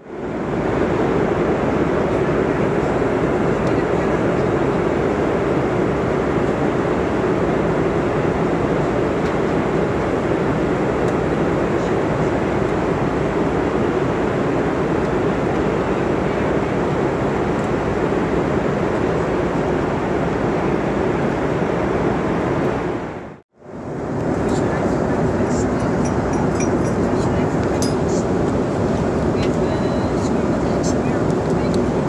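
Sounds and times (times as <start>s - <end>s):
airplane cabin noise: 0.0s - 32.0s.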